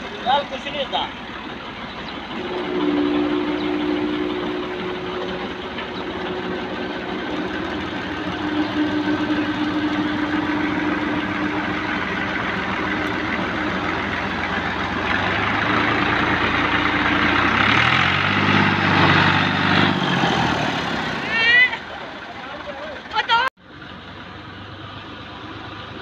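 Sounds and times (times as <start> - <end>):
deeper engine note: 0.0 - 26.0
tractor diesel engine under load: 0.0 - 26.0.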